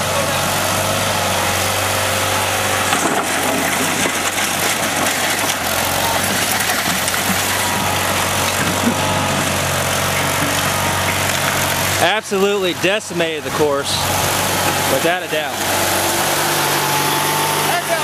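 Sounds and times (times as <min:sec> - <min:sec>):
lawn tractor engine droning: 0:00.0 - 0:18.0.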